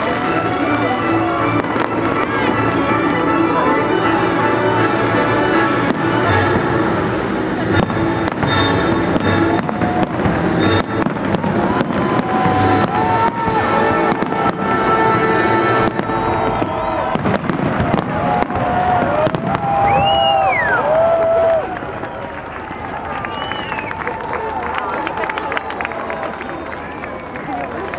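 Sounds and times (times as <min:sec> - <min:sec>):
fireworks bangs and crackles: 0:00.0 - 0:04.3, 0:05.0 - 0:23.8.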